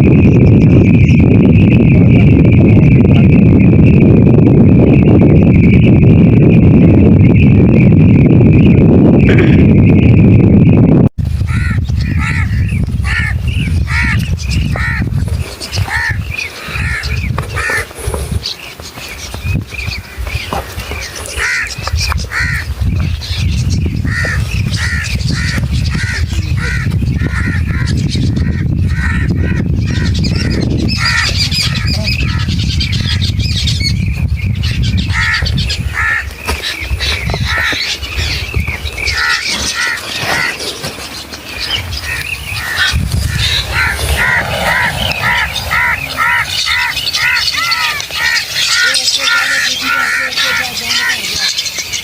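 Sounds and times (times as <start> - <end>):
wind rumble on microphone: 0.0 - 49.8
birds calling: 7.2 - 10.4, 11.4 - 52.0.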